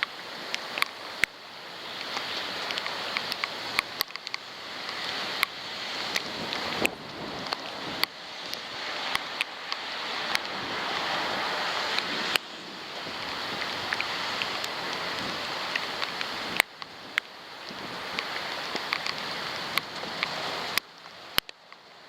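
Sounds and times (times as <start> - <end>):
wind and rain rushing: 0.0 - 22.0.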